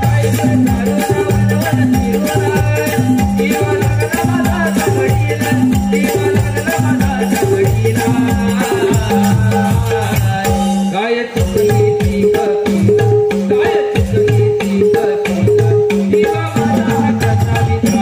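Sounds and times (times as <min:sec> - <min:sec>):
drum strokes: 0:00.0 - 0:18.0.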